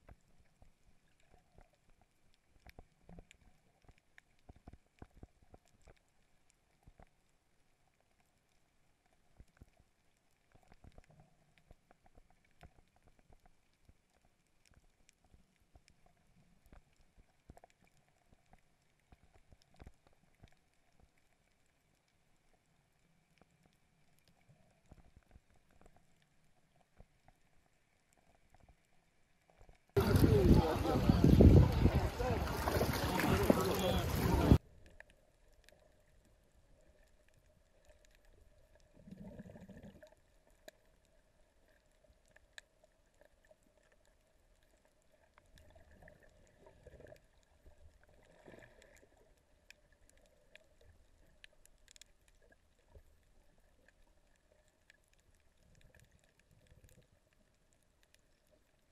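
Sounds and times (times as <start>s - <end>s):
faint underwater clicks and taps: 0.0s - 30.4s, 32.6s - 58.9s.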